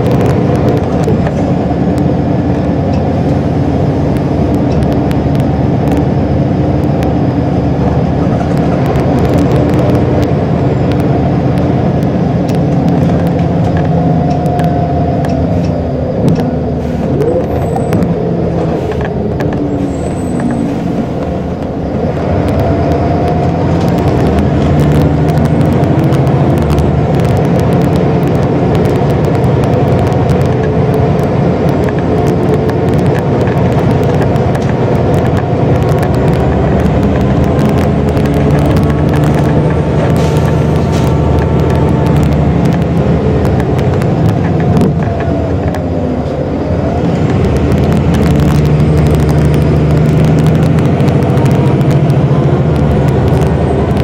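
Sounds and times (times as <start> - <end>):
bus body rattles and clicks: 0.0 - 54.0
bus diesel engine running: 0.0 - 54.0.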